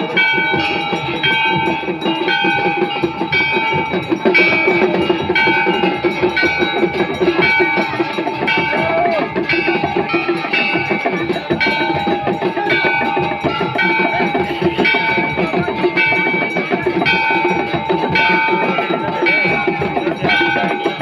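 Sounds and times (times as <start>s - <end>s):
drums and percussion: 0.0s - 21.0s
temple bells ringing: 0.0s - 21.0s.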